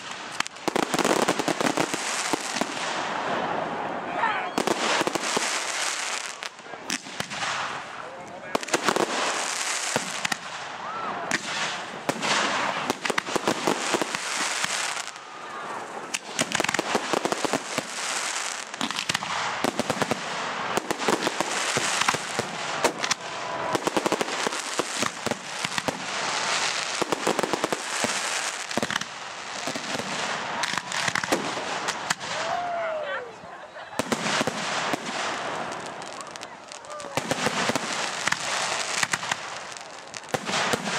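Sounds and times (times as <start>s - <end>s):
fireworks hissing: 0.0s - 3.2s, 4.6s - 32.4s, 34.0s - 40.9s
fireworks crackling and popping: 0.0s - 3.9s, 4.5s - 33.0s, 33.7s - 40.9s.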